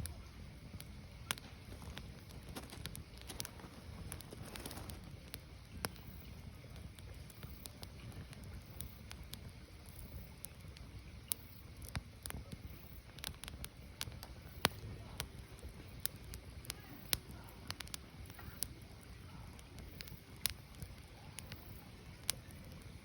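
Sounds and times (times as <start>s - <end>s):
firewood crackling and popping: 0.0s - 23.0s
low steady fire rumble: 0.0s - 23.0s.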